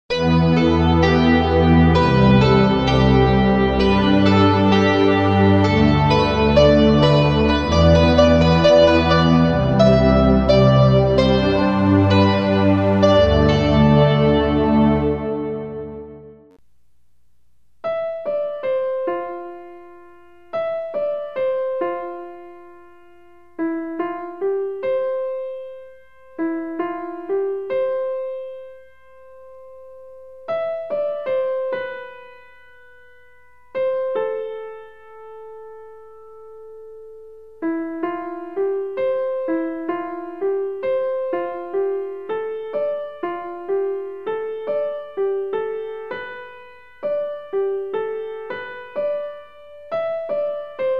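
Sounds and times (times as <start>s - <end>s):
solo piano melody: 0.1s - 16.6s, 17.8s - 50.9s.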